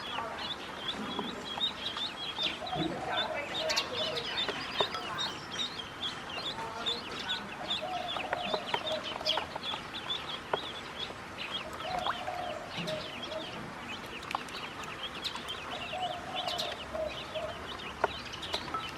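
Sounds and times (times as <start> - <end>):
ducklings peeping: 0.0 - 18.9.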